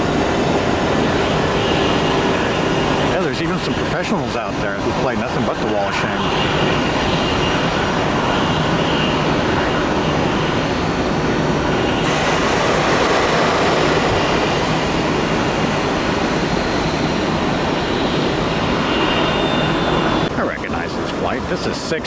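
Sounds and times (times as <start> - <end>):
jet engines rushing with whine: 0.0 - 22.0.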